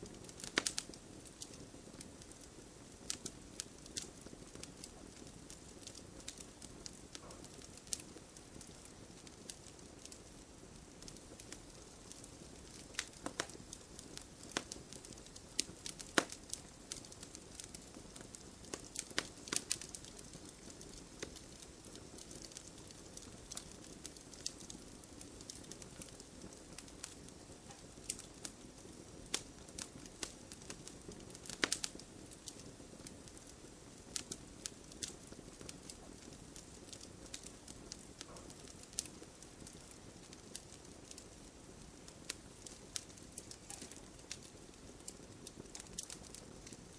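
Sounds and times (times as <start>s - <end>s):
soft rustle of burning: 0.0s - 46.9s
wood fire crackling and popping: 0.0s - 46.9s.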